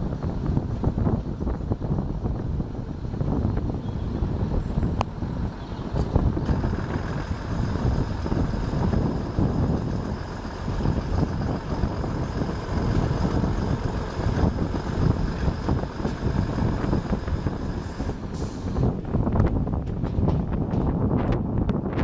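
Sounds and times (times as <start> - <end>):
diesel railcar engines running: 0.0 - 22.0
train rolling with heavy rumble: 0.0 - 22.0
wind buffeting microphone: 0.0 - 22.0.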